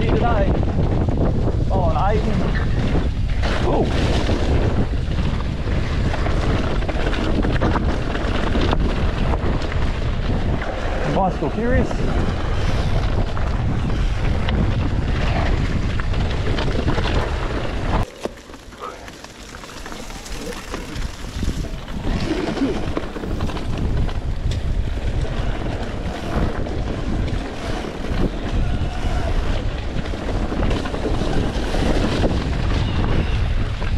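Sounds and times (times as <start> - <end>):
bike tyres rumbling on dirt: 0.0 - 33.9
wind buffeting microphone: 0.0 - 33.9.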